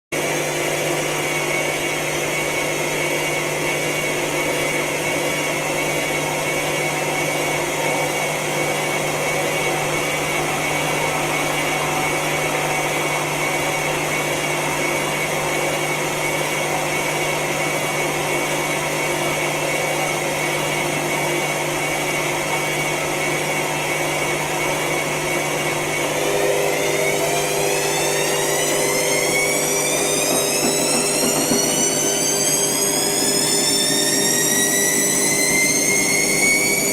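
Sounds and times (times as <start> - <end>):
washing machine motor hum: 0.2 - 36.9.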